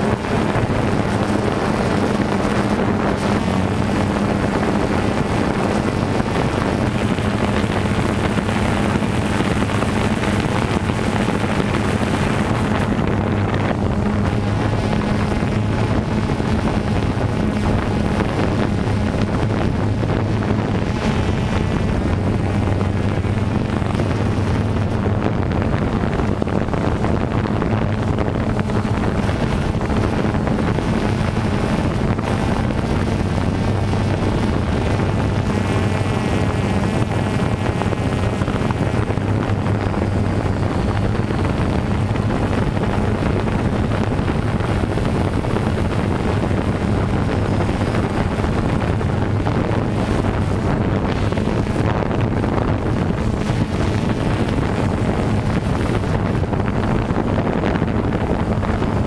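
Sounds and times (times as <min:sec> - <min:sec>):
drone motors humming: 0:00.0 - 0:59.0
wind on microphone: 0:00.0 - 0:59.0.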